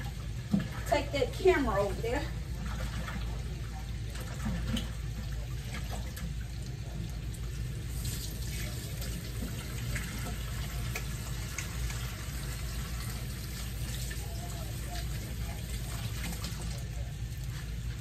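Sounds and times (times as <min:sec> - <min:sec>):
faucet running into sink: 0:00.0 - 0:18.0.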